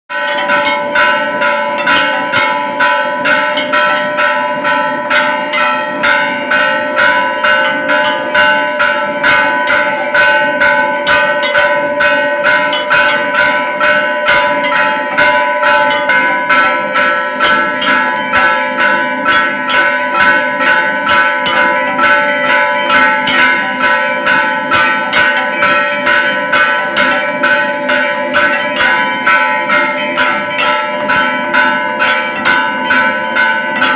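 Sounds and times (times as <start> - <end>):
temple bell ringing: 0.1 - 33.9.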